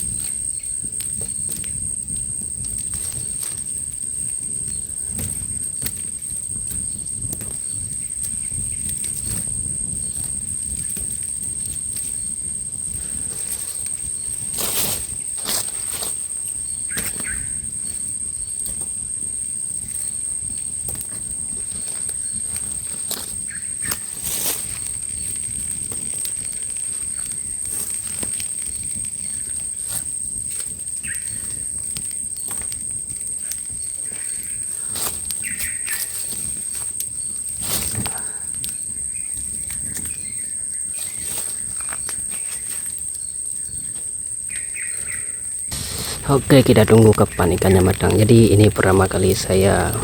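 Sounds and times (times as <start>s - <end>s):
campfire crackling and popping: 0.0s - 50.0s
insects droning: 0.0s - 50.0s.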